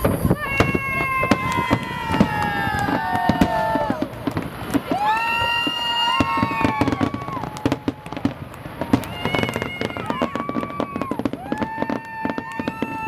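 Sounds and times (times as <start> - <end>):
fireworks crackles and bangs: 0.0 - 13.0
fireworks whistling: 0.0 - 13.0.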